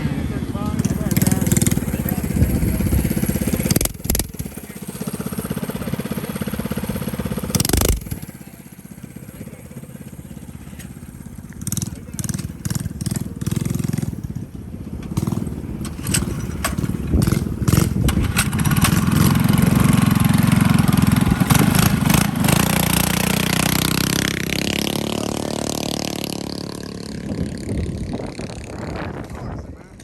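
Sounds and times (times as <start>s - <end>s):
mini bike engine passing: 0.0s - 30.0s.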